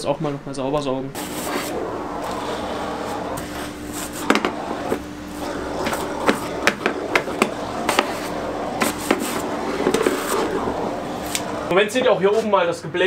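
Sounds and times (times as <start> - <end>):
vacuum cleaner running: 1.2 - 12.2.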